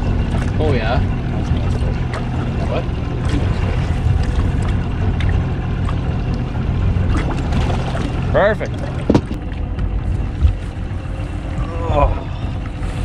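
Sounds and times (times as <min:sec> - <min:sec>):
boat motor droning: 0:00.0 - 0:13.0
rushing water: 0:00.0 - 0:13.0
wind: 0:00.0 - 0:13.0.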